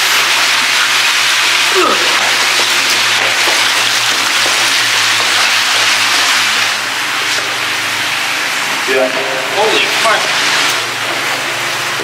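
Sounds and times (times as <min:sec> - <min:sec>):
water rushing through pipe: 0:00.0 - 0:12.0.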